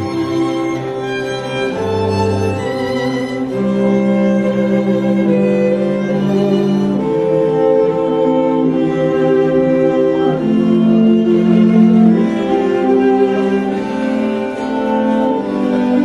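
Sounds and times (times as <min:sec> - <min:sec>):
bowed strings playing slow melody: 0:00.0 - 0:16.0.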